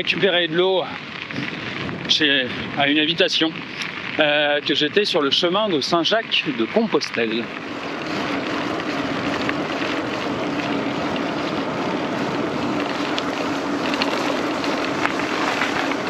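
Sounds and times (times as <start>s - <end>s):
bike tyres rolling over gravel: 0.0s - 16.0s
stones ticking under wheels: 0.0s - 16.0s.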